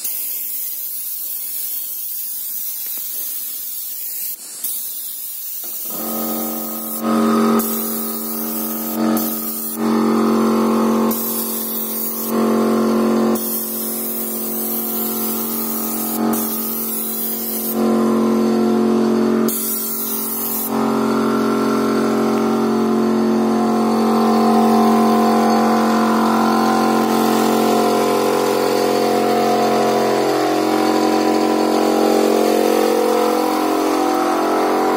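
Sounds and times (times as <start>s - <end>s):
airbrush spray hiss: 0.0s - 22.7s, 23.5s - 34.9s
compressor motor running: 5.6s - 34.9s.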